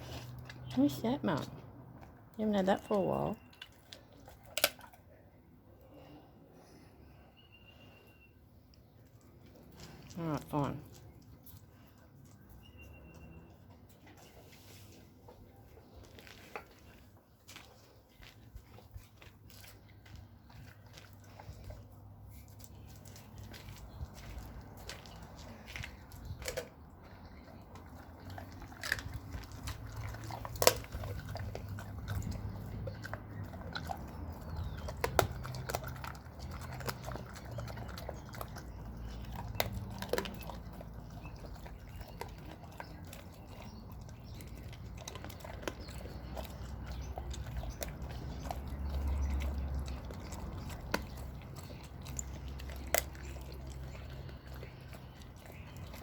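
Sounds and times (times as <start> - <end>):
dog chewing bones: 2.9 - 5.1, 10.8 - 56.0.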